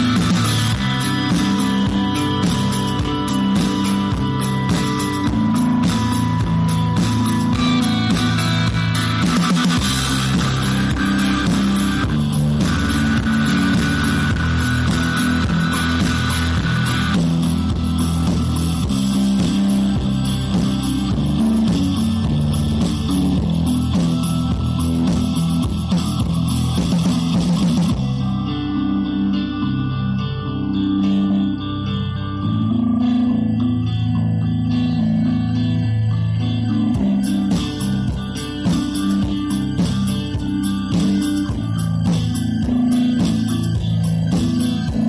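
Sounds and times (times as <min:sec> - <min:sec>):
guitar background music: 0:00.0 - 0:45.0.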